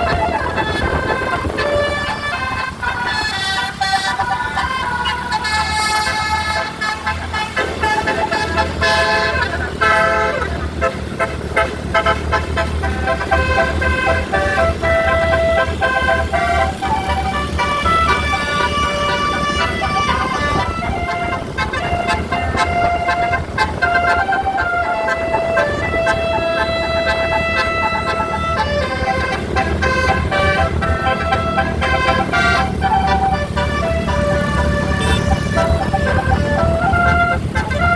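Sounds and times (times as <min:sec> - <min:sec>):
low engine rumble: 0:00.0 - 0:37.9
musical bus air horn: 0:00.0 - 0:37.9.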